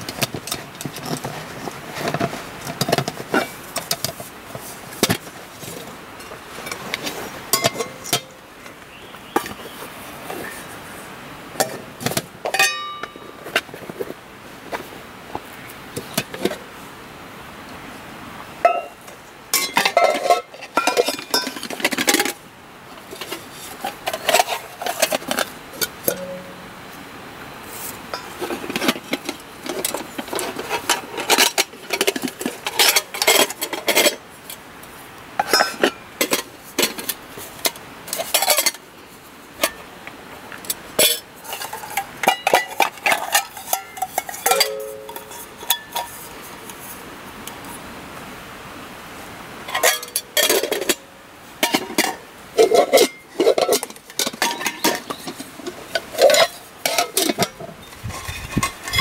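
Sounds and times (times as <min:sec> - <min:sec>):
metal pots clinking and scraping: 0:00.0 - 0:16.8, 0:18.6 - 0:38.9, 0:39.5 - 0:40.0, 0:40.6 - 0:47.0, 0:49.6 - 0:59.0.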